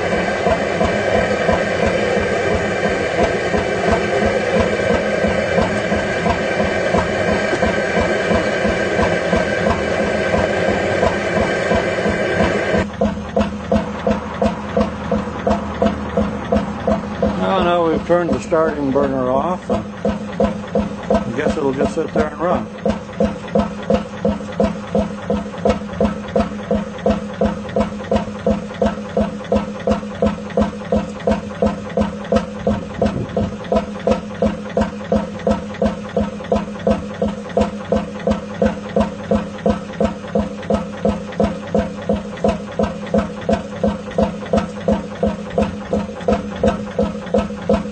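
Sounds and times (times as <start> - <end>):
oil engine running steadily: 0.0 - 47.9.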